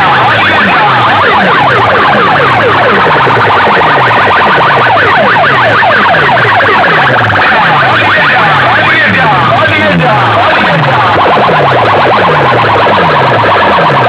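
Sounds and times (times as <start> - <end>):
electronic siren sound effect: 0.0 - 14.0.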